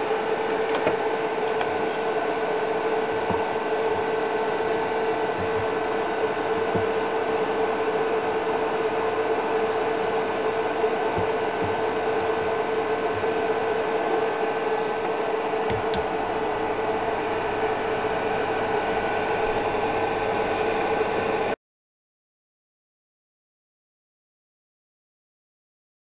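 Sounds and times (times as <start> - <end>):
electrical hum with hiss: 0.0 - 21.6.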